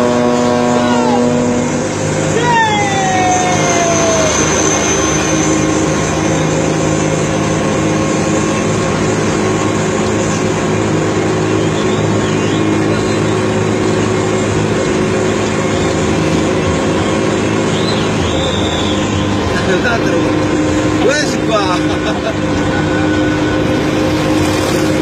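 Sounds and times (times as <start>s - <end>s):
bus engine running: 0.0s - 25.0s
road noise: 0.0s - 25.0s.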